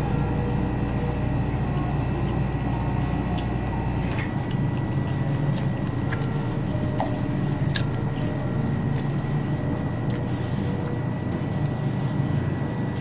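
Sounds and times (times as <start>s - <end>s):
low hum of refrigerated coolers: 0.0s - 13.0s.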